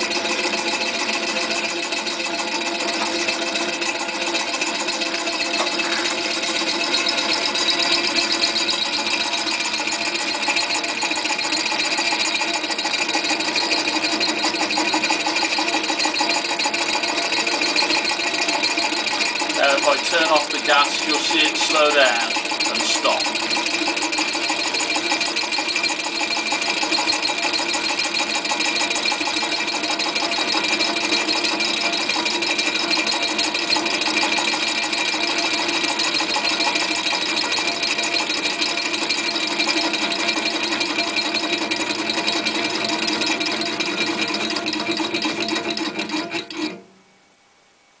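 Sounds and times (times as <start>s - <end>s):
stirling engine clatter: 0.0s - 46.8s.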